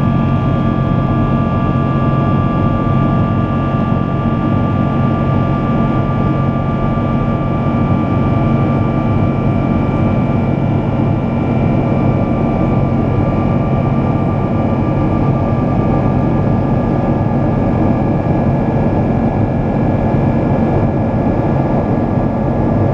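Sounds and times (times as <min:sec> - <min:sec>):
high fan whine: 0:00.0 - 0:22.9
jet engines droning: 0:00.0 - 0:22.9.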